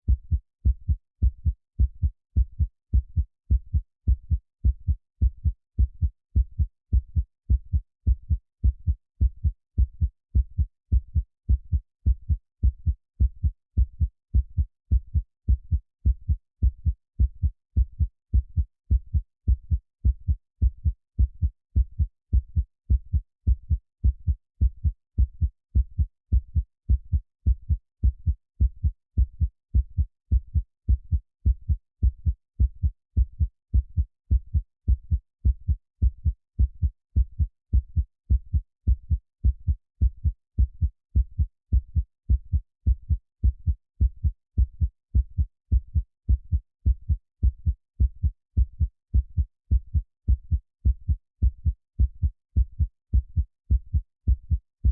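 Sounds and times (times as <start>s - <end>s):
heartbeat thuds: 0.1s - 54.9s.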